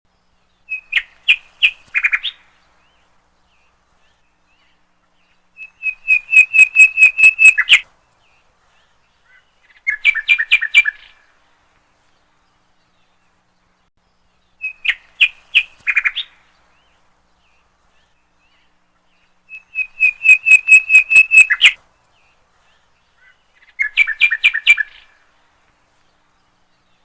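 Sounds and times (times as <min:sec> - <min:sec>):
small bird chirping: 0:00.2 - 0:11.3, 0:12.0 - 0:25.3.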